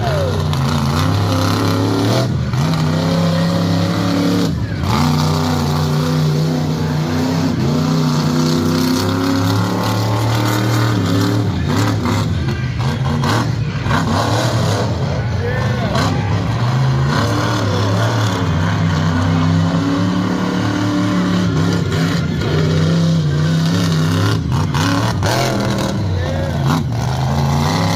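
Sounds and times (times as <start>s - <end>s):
truck engine revving: 0.0s - 27.9s.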